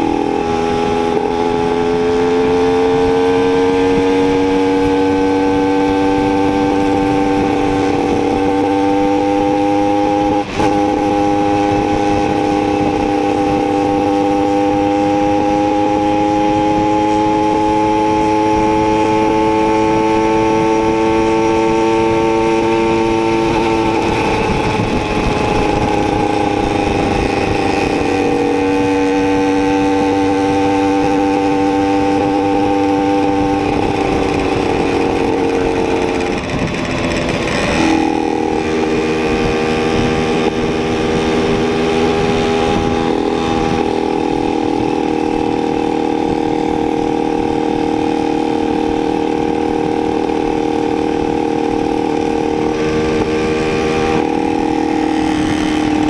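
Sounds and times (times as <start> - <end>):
moped engine running: 0.0 - 56.0
wind noise: 0.0 - 56.0.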